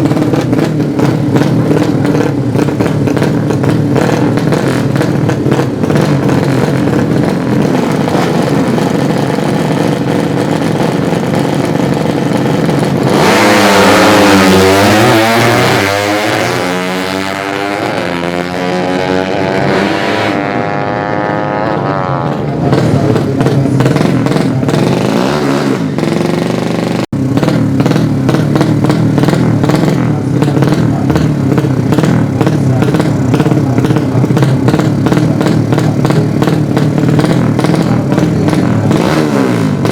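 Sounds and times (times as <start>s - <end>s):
motorcycle engines racing: 0.0s - 39.9s.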